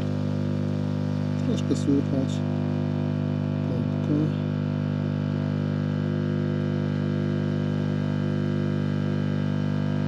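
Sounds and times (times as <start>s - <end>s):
air blower humming: 0.0s - 10.0s.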